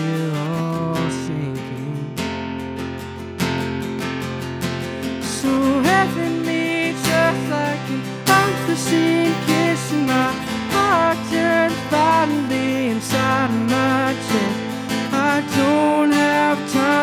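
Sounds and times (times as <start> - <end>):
man singing: 0.0 - 2.3, 5.2 - 17.0
acoustic guitar strumming: 0.0 - 17.0.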